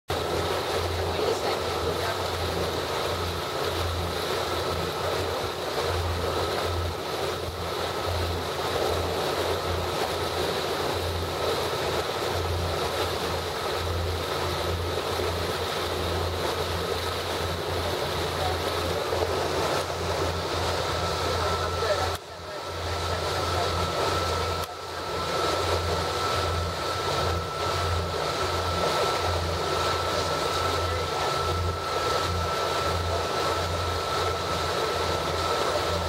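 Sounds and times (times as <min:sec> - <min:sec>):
motorboat engine running: 0:00.1 - 0:36.0
water rushing past hull: 0:00.1 - 0:36.0.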